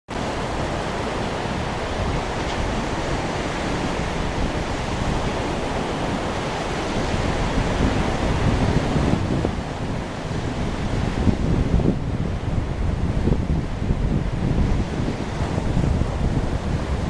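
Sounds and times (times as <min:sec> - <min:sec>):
rough sea surf: 0:00.1 - 0:17.0
storm wind on microphone: 0:00.1 - 0:17.0.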